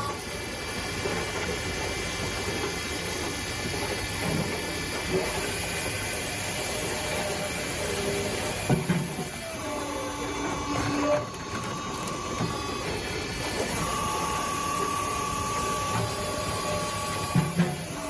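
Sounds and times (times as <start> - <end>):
firewood processor whining and clattering: 0.0 - 18.0.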